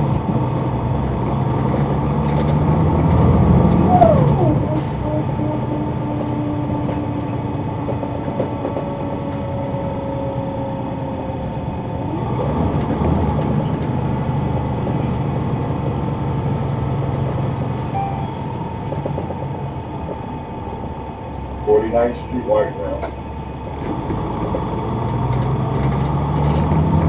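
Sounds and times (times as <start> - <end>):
bus engine and transmission whine: 0.0 - 27.0.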